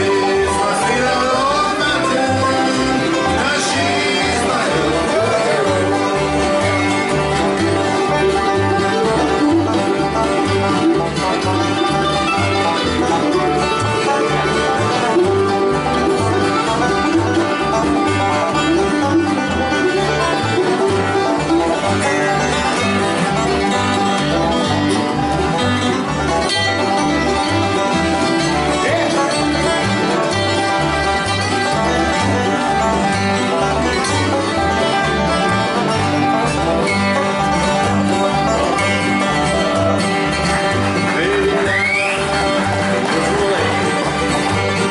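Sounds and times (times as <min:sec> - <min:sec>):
bluegrass band playing: 0:00.0 - 0:44.9
plucked strings: 0:00.0 - 0:44.9
two-note bass line: 0:00.0 - 0:44.9.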